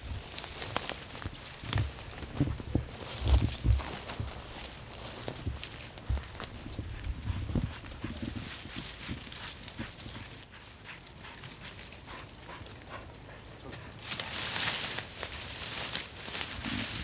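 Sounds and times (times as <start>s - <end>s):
footsteps through undergrowth and leaves: 0.0s - 17.0s.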